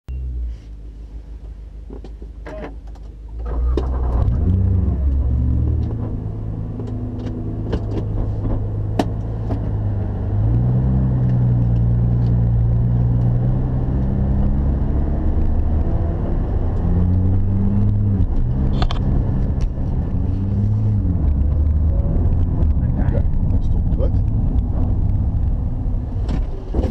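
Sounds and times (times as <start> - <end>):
car engine revving and accelerating: 3.5 - 26.9.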